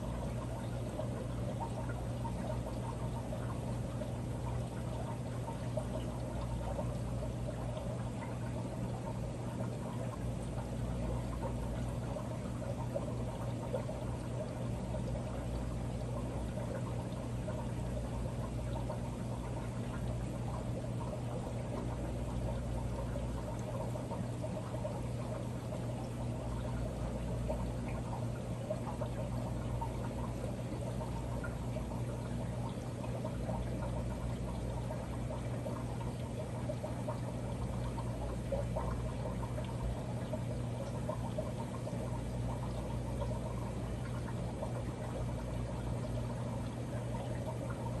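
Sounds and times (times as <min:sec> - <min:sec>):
low steady hum: 0:00.0 - 0:48.0
water trickling into tank: 0:00.0 - 0:48.0.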